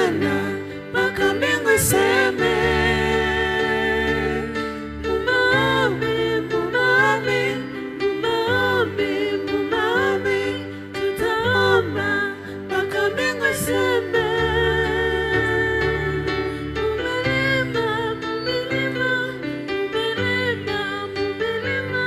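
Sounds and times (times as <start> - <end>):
bass and keyboard chords: 0.0 - 22.0
solo voice singing: 0.0 - 22.0.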